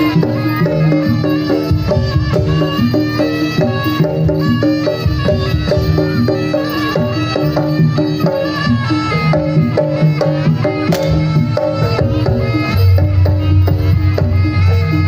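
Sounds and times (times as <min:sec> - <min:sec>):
drums: 0:00.0 - 0:15.0
gamelan music: 0:00.0 - 0:15.0
struck metal percussion: 0:00.0 - 0:15.0.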